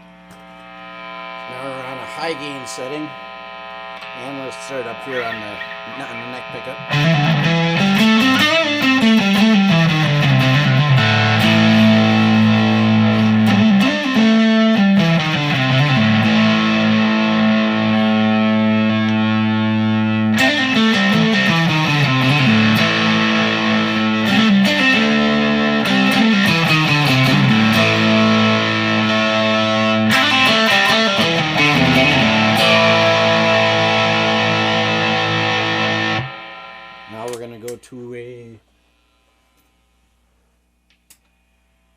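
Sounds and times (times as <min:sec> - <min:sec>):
distorted electric guitar riffs: 0:00.0 - 0:38.6.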